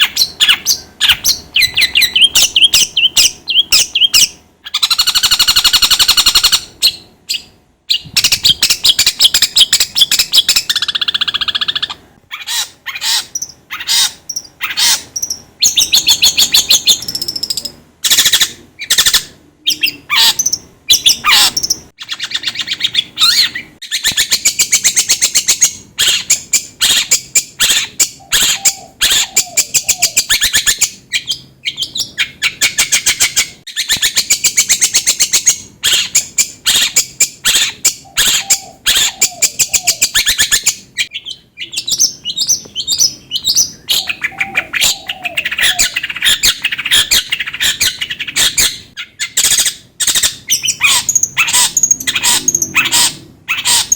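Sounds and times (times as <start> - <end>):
bird harsh chattering song: 0.0 - 53.9.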